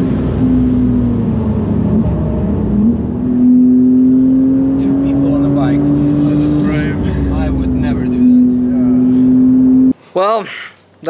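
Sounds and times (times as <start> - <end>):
car engine accelerating: 0.0 - 9.9.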